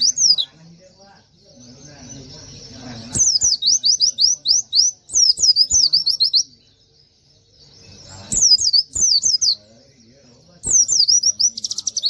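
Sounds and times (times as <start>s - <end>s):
bird singing rapid high notes: 0.0s - 12.0s.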